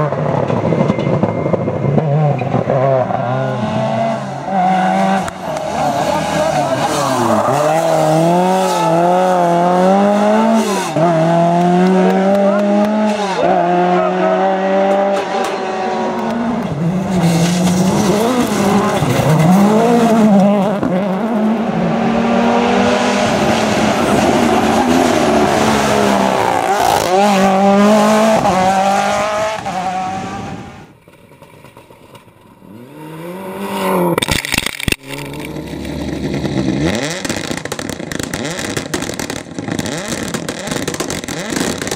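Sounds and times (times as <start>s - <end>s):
rally car engine revving: 0.0s - 30.9s, 32.6s - 41.9s
car approaching: 0.0s - 41.9s.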